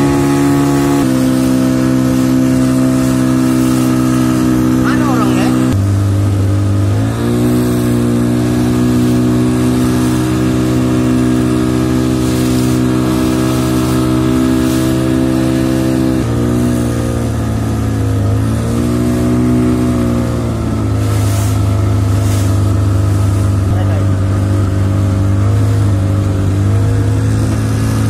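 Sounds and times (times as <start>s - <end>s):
boat engine running: 0.0s - 28.0s
water splashing along hull: 0.0s - 28.0s.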